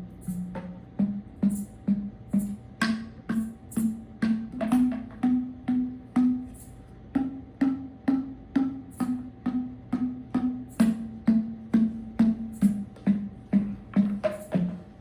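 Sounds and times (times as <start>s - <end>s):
hand percussion strikes: 0.0s - 15.0s.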